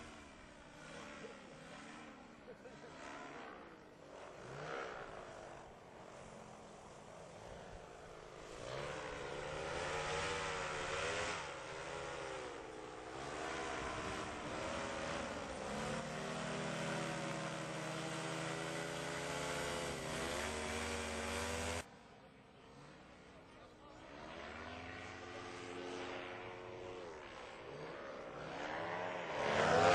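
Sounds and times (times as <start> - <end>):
paramotor engine and propeller: 0.0 - 29.9.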